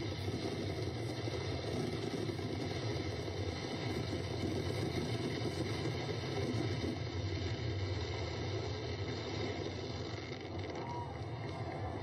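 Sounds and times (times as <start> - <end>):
distant fireworks rumble: 0.0 - 12.0.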